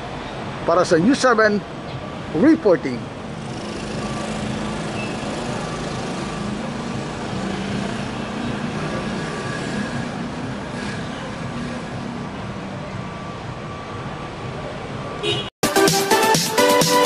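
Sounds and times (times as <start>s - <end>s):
passing vehicles din: 0.0s - 15.5s.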